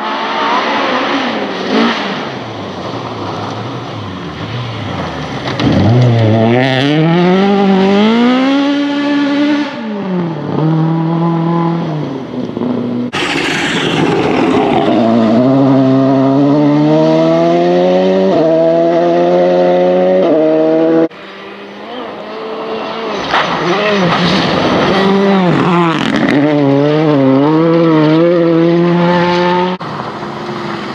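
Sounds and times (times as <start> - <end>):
distant engine: 0.0 - 30.9
rally car engine revving: 0.0 - 30.9.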